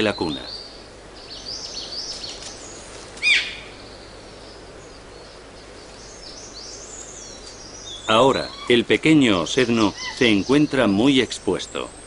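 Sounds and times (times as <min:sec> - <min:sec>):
small birds chirping: 0:00.0 - 0:12.0
steady background hiss: 0:00.0 - 0:12.0.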